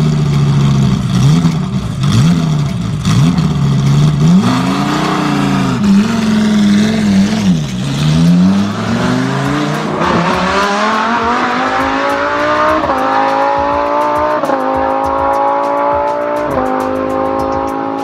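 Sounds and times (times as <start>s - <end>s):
vehicle engine accelerating: 0.0s - 18.0s.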